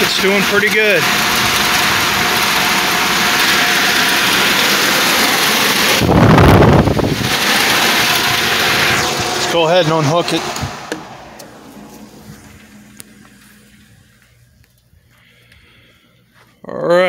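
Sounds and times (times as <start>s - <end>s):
air blast buffeting microphone: 0.0s - 15.9s
blower fan rushing air: 0.0s - 16.1s
faint motor hum: 0.0s - 16.9s.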